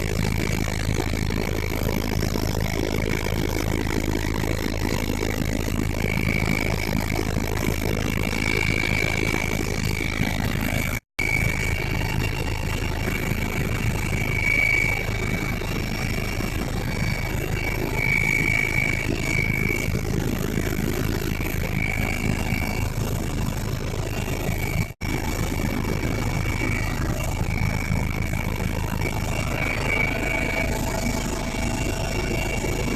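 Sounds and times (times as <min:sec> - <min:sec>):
helicopter engine and rotors: 0:00.0 - 0:32.9.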